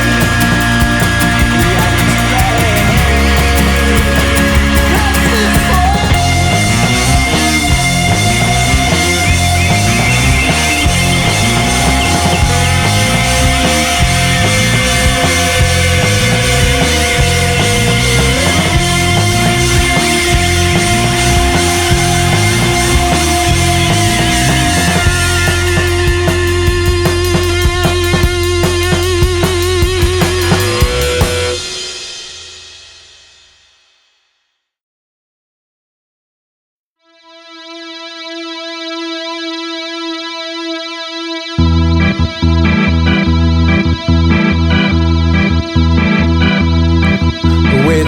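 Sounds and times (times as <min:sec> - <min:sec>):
instrumental rock music: 0:00.0 - 0:33.5, 0:37.1 - 0:48.0.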